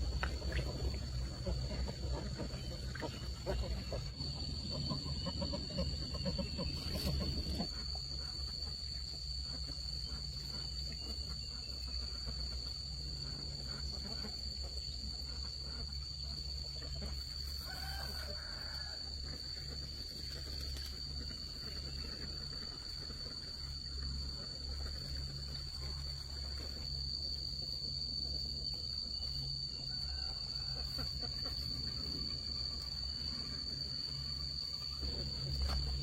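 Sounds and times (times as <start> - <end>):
insects trilling: 0.0 - 36.0.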